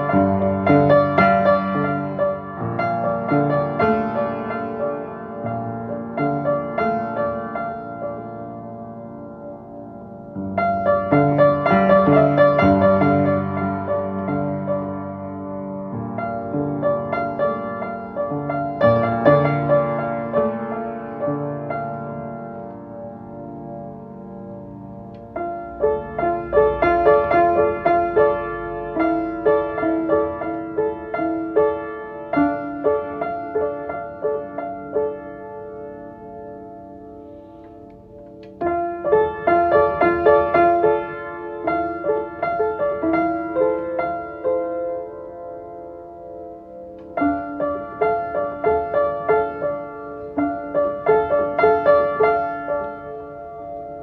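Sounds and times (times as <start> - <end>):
solo piano: 0.0 - 54.0.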